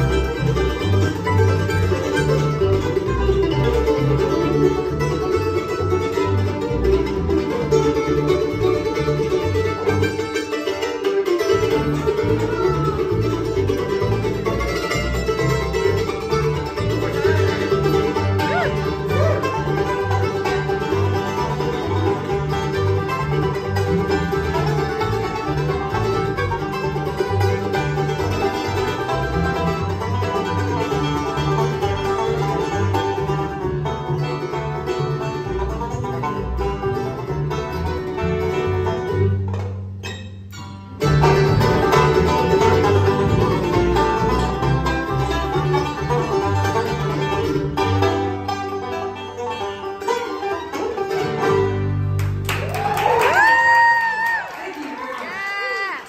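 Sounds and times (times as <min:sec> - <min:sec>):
bluegrass band playing: 0:00.0 - 0:55.9
picked banjo: 0:00.0 - 0:55.9.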